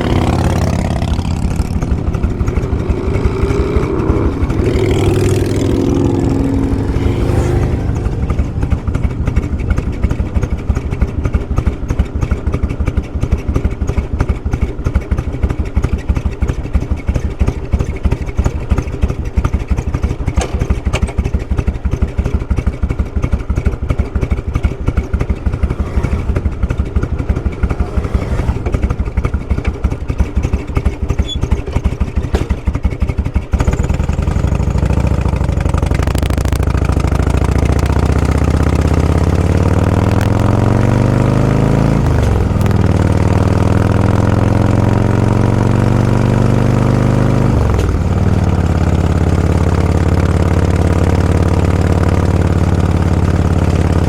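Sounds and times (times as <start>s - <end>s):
engine with higher steady tone: 0.0s - 54.0s
motorcycle engine idling: 0.0s - 54.0s.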